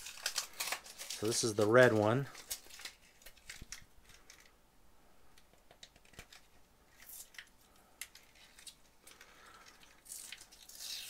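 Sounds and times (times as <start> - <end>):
plastic film peeling crackles: 0.0 - 4.5, 5.8 - 11.0.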